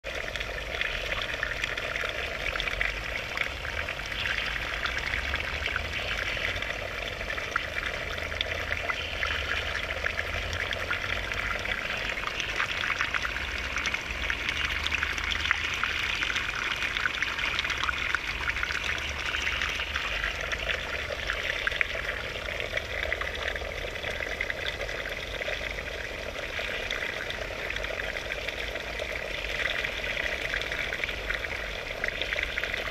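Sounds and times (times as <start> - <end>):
water trickling and splashing: 0.0 - 32.9.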